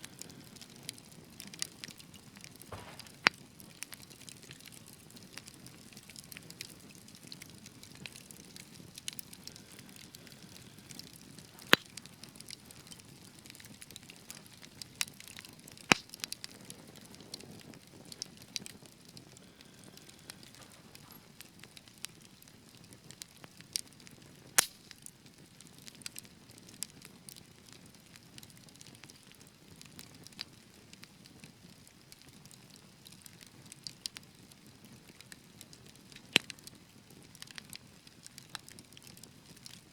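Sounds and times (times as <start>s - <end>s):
sharp pops and snaps of fire: 0.0s - 39.9s
wood fire crackling: 0.0s - 39.9s.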